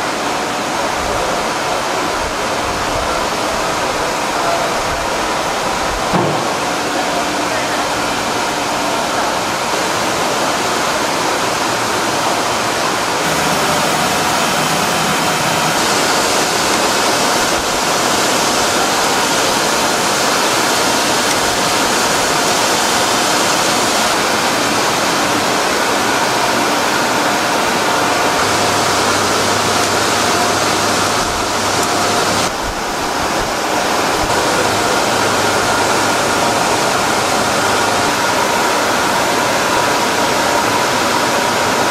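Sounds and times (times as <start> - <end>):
rushing noise of conveyor line: 0.0 - 41.9.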